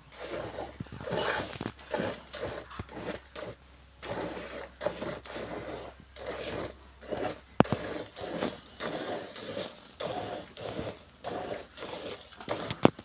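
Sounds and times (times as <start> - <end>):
milk squirting into a pail: 0.1 - 13.0.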